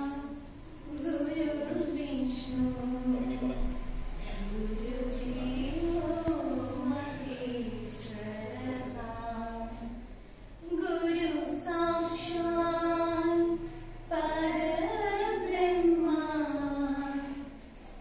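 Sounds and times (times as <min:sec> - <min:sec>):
women singing unaccompanied: 0:00.0 - 0:17.8.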